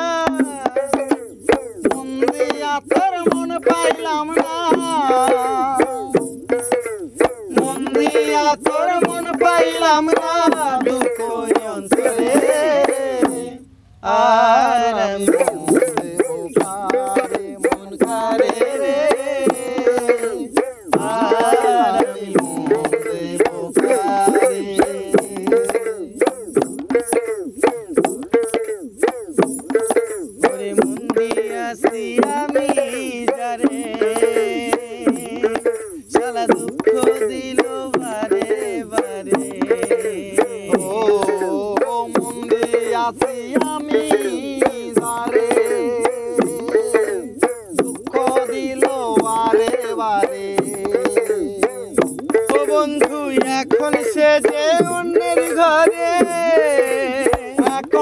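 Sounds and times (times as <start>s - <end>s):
hand drum beat: 0.0s - 58.0s.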